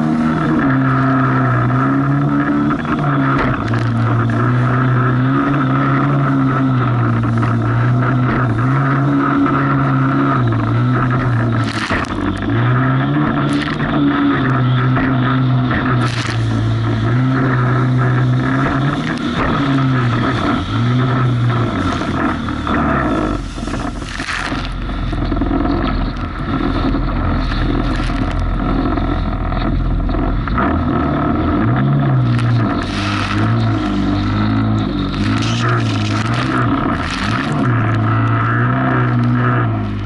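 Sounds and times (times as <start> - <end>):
jet ski engine running: 0.0 - 40.0
rushing water: 0.0 - 40.0
wind noise: 0.0 - 40.0.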